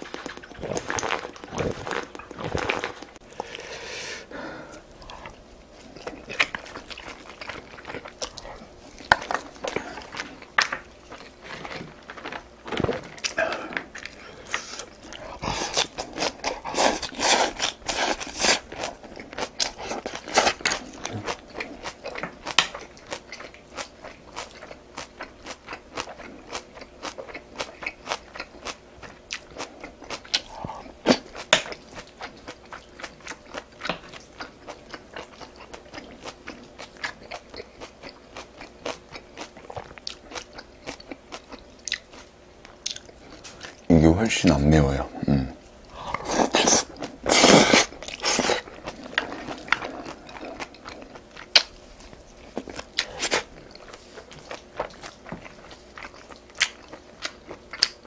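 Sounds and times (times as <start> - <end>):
person biting and chewing food: 0.0 - 3.7, 4.7 - 43.9, 45.8 - 58.0.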